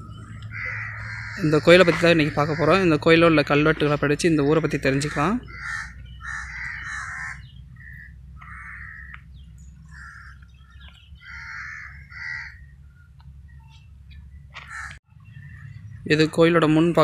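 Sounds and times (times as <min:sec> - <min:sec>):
low rumble: 0:00.0 - 0:17.0
crows cawing: 0:00.2 - 0:12.7, 0:14.6 - 0:15.7.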